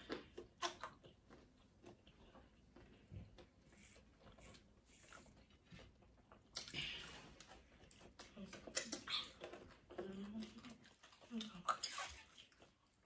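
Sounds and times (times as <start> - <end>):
chewing with mouth clicks: 0.0 - 13.0.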